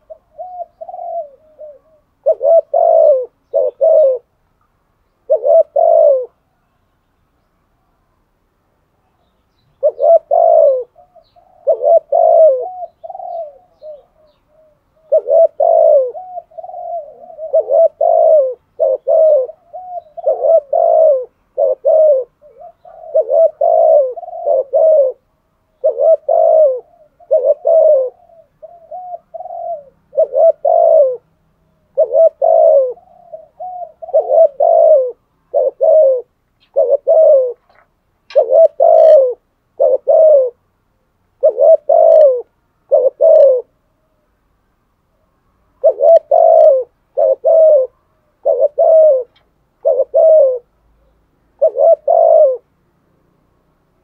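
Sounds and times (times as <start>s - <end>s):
dove cooing: 0.0s - 4.4s, 5.2s - 6.7s, 9.7s - 40.6s, 41.4s - 44.2s, 45.8s - 52.7s.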